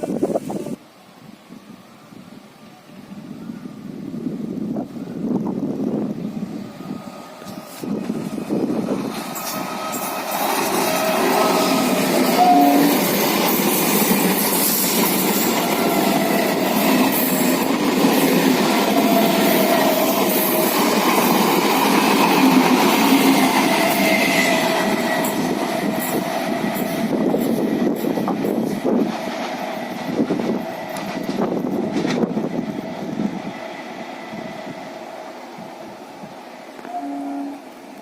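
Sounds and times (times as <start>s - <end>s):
train wheels rushing on rail: 3.0s - 38.0s.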